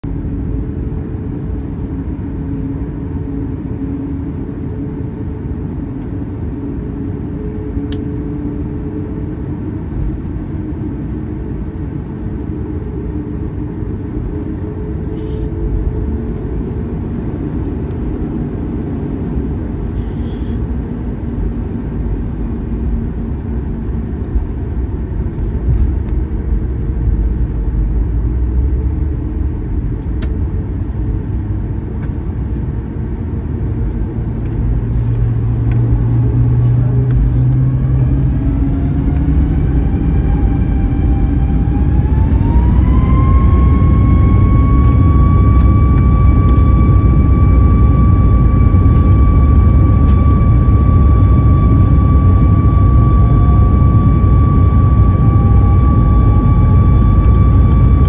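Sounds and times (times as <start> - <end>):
jet engine rumble at taxi: 0.0 - 58.0.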